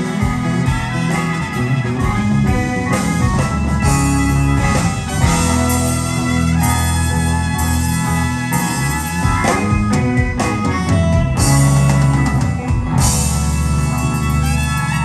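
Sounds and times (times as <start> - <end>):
drum kit: 0.0 - 15.0
guitar: 0.0 - 15.0
live band playing: 0.0 - 15.0.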